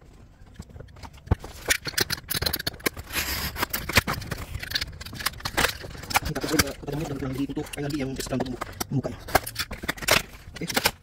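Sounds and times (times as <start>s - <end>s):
packaging clicks and snaps: 0.5s - 11.0s
packaging scraping rustles: 0.8s - 11.0s.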